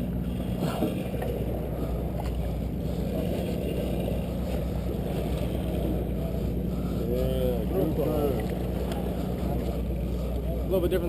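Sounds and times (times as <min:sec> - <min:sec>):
boat engine humming: 0:00.0 - 0:11.0
water wash: 0:00.0 - 0:11.0.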